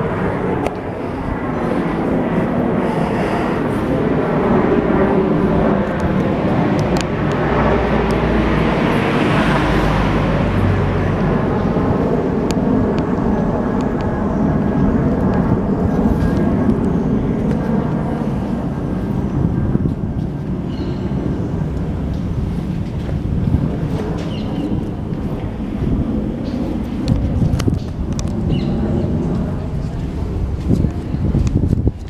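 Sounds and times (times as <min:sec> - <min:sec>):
vehicle passing: 0:00.0 - 0:27.7
road traffic noise: 0:00.0 - 0:32.0.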